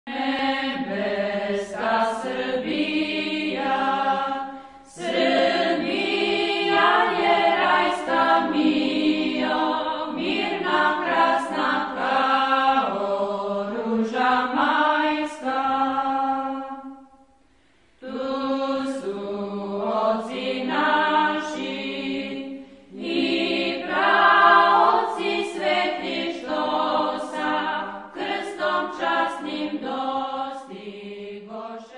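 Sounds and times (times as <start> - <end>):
choral chanting: 0.1 - 17.4, 18.0 - 31.9.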